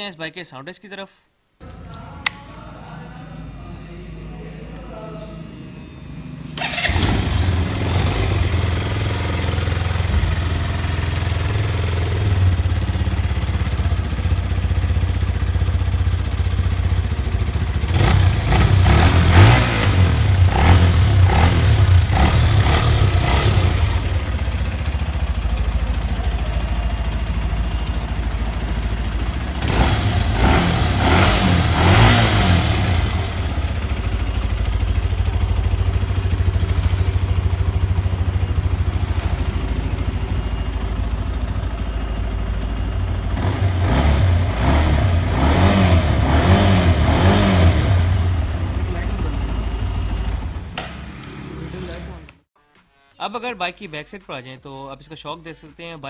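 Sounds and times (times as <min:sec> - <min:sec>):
motorcycle engine idling: 0:02.2 - 0:52.3
motorcycle engine revving: 0:02.2 - 0:52.5
motorcycle engine starting: 0:03.8 - 0:52.5.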